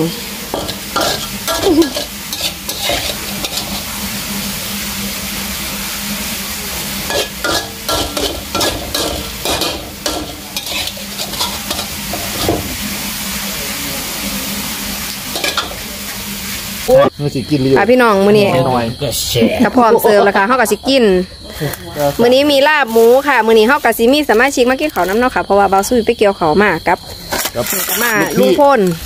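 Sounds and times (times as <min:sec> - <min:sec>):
hot wok sizzling: 0:00.0 - 0:29.0.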